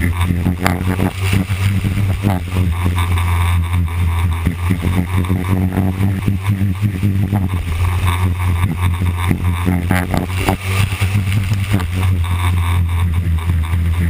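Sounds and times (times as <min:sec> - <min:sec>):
race car engine droning: 0:00.0 - 0:14.0.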